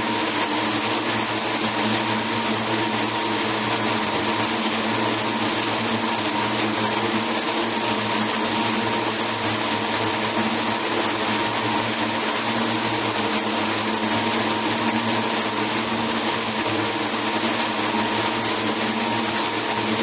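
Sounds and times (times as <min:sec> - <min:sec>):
thin steady whine: 0:00.0 - 0:20.0.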